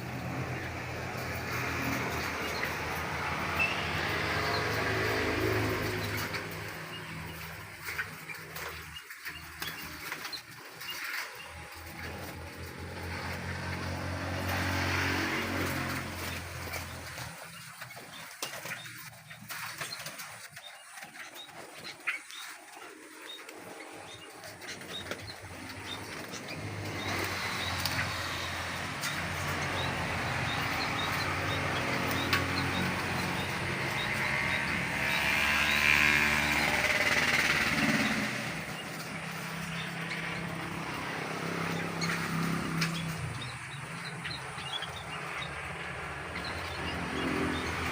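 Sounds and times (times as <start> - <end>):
birds chirping: 0.0 - 47.9
engine hum: 0.0 - 47.9.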